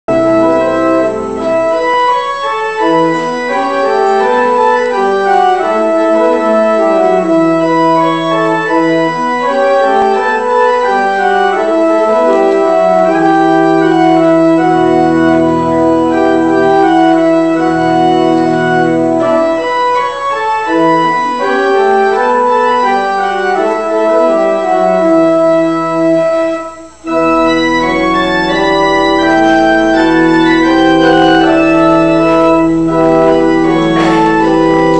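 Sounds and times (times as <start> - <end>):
low bass organ note: 0.1 - 34.9
organ playing slow chords: 0.1 - 34.9.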